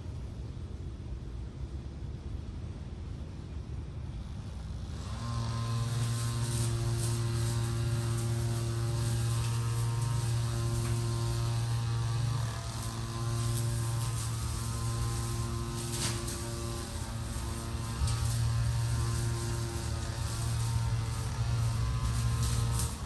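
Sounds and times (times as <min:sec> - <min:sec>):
mechanical drone with low hum: 0:00.0 - 0:23.0.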